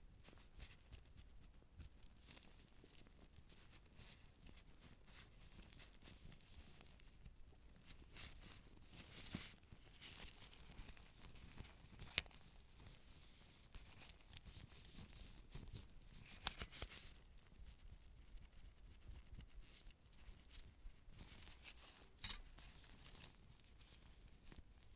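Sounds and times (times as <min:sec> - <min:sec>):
rustling and crinkling of supplies: 0:00.0 - 0:24.9.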